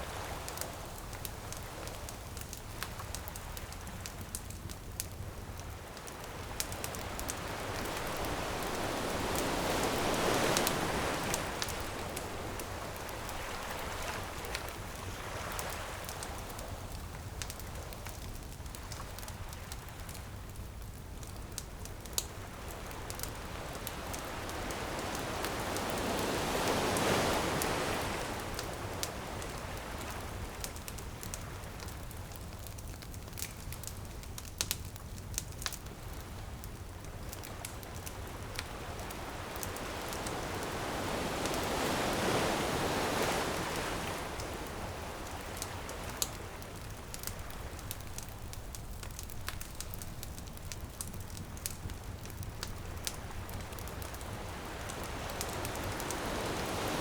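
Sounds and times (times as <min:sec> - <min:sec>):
bonfire crackling and popping: 0:00.0 - 0:57.0
ocean waves washing onto beach: 0:00.0 - 0:57.0.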